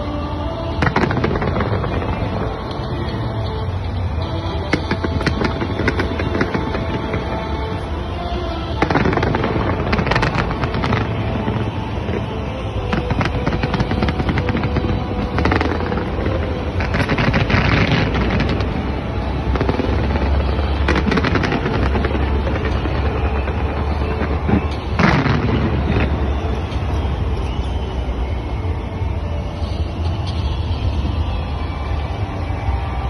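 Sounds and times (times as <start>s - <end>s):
fireworks popping and crackling: 0.0s - 33.0s.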